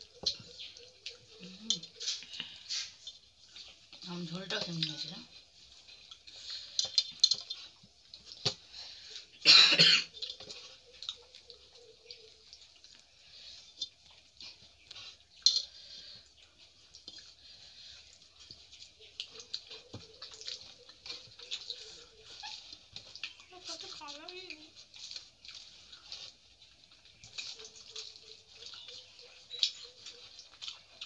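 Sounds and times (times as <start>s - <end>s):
fingers squishing rice and curry: 0.0s - 9.4s, 10.0s - 31.0s
wet mouth clicks and chewing: 0.0s - 9.4s, 10.0s - 31.0s.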